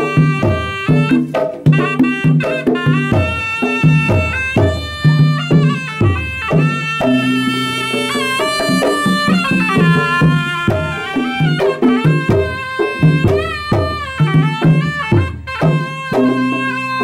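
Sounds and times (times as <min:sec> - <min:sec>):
drum beats: 0:00.0 - 0:17.0
reedy wind instrument melody: 0:00.0 - 0:17.0.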